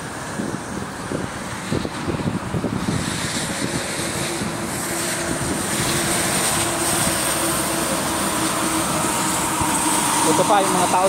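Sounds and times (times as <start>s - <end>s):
wind rumbling on microphone: 0.0s - 11.0s
vehicle engine running: 0.5s - 11.0s.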